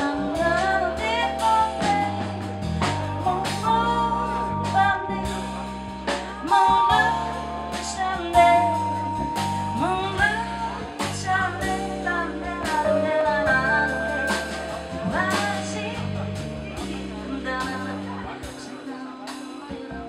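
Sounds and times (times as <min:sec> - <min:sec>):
bass guitar: 0:00.0 - 0:20.0
drum kit steady beat: 0:00.0 - 0:20.0
woman singing: 0:00.0 - 0:20.0.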